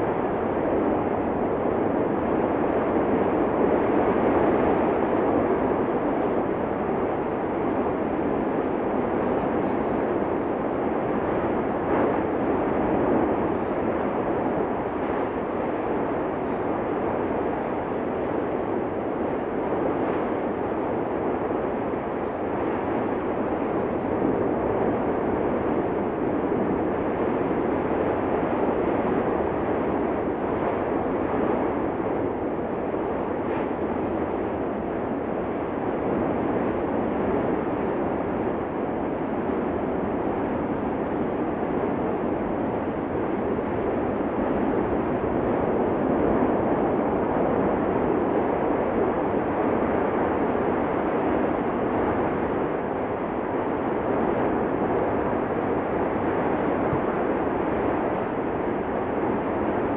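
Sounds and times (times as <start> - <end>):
volcanic eruption rushing: 0.0 - 59.9.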